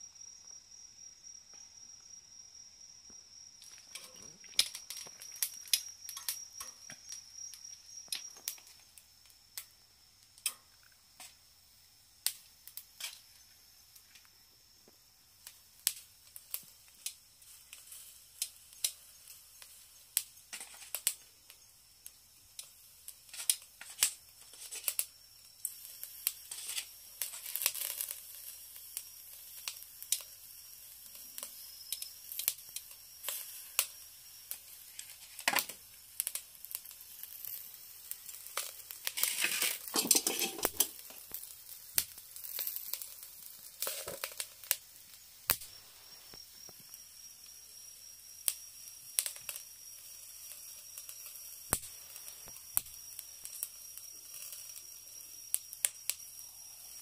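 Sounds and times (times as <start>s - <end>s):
grilling hiss: 0.0s - 57.0s
meat grilling pops and crackles: 0.1s - 57.0s.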